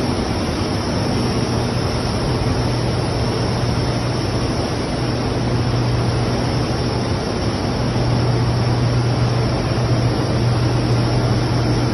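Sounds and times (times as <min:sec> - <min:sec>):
constant low hum: 0:00.0 - 0:11.9.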